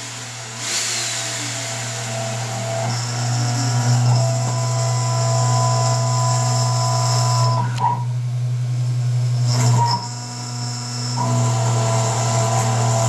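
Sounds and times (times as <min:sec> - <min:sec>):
milling spindle whining: 0:00.0 - 0:08.2, 0:09.4 - 0:13.0
constant machine hum: 0:00.0 - 0:13.0
cutter milling metal: 0:00.0 - 0:13.0.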